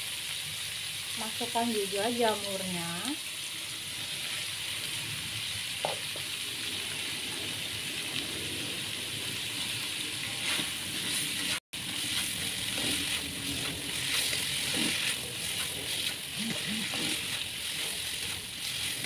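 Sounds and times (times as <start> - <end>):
vegetables sizzling in frying pan: 0.0 - 19.0.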